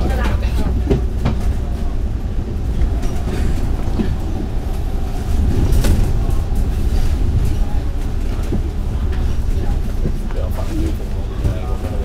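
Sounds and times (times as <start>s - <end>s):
bus body rattling: 0.0s - 12.0s
bus engine and road rumble: 0.0s - 12.0s.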